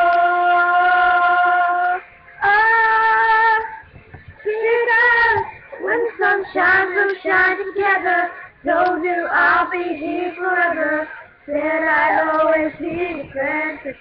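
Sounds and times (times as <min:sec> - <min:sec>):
girls singing: 0:00.0 - 0:14.0.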